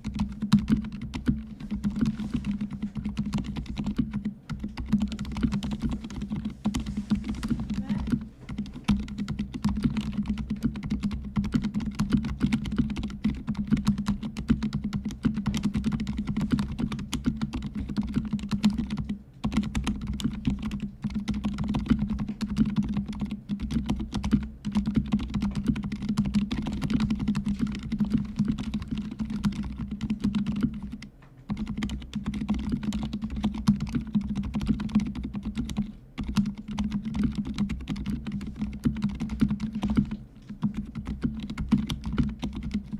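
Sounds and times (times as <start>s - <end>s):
fast typing on mechanical keyboard: 0.0s - 42.9s.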